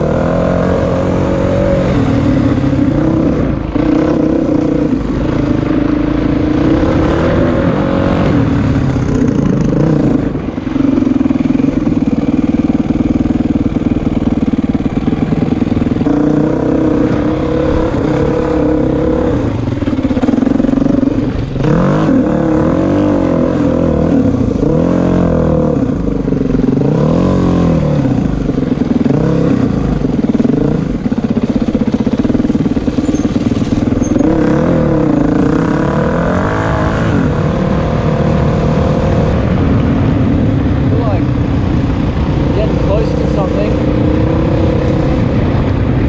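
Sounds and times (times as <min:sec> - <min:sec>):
dirt bike engine revving: 0:00.0 - 0:39.4, 0:42.1 - 0:46.0.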